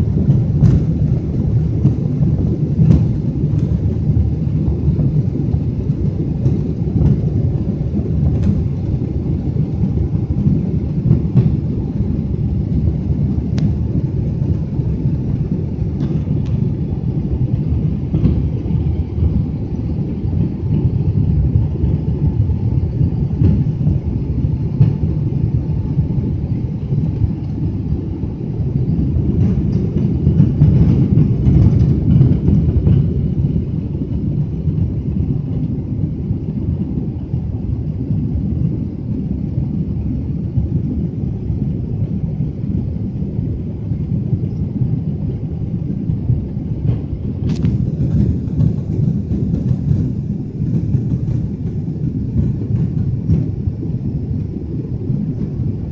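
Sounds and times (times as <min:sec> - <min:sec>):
jet engine rumble in cabin: 0:00.0 - 0:55.9.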